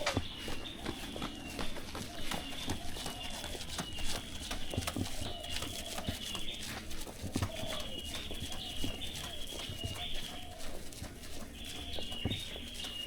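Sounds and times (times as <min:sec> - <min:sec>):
footsteps on hard path: 0:00.0 - 0:13.0.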